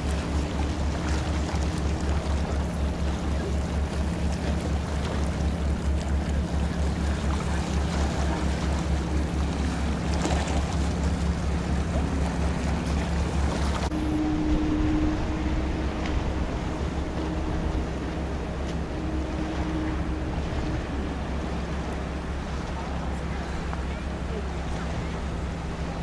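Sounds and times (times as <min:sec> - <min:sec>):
boat diesel engine throbbing: 0:00.0 - 0:26.0
water noise: 0:00.0 - 0:26.0
wind: 0:00.0 - 0:26.0.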